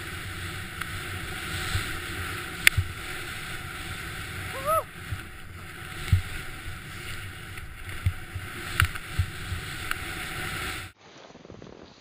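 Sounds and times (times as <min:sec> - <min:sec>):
rush of snow and wind: 0:00.0 - 0:12.0.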